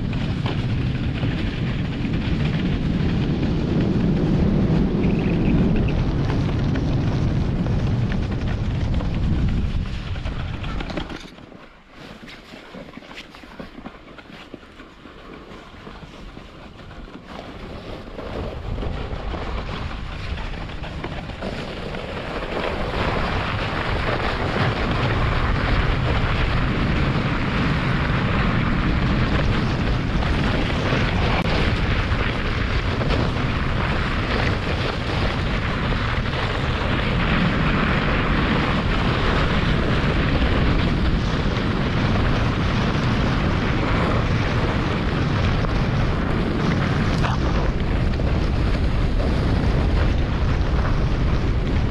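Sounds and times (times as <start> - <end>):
wind rushing on microphone: 0.0 - 13.9, 14.6 - 51.9
sled runners scraping over snow: 0.0 - 51.9.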